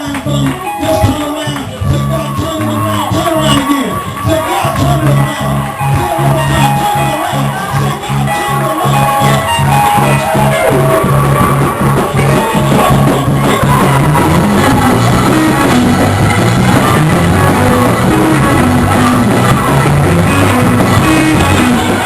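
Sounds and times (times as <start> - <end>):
live gospel band playing: 0.0 - 22.0
walking bass line: 0.0 - 22.0.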